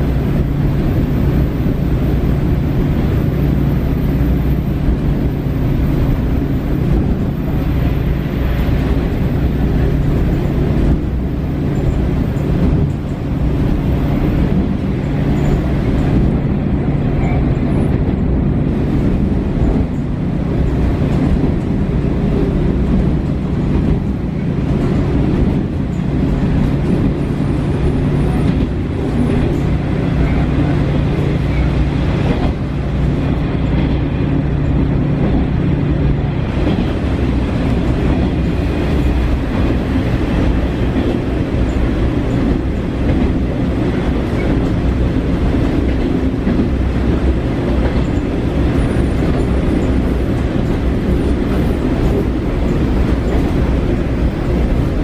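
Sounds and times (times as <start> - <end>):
railcar engine and rolling noise: 0.0 - 55.0.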